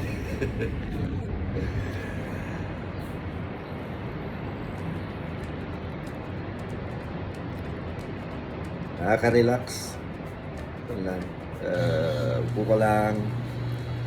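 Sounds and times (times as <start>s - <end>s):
low rumble of surf: 0.0s - 14.0s.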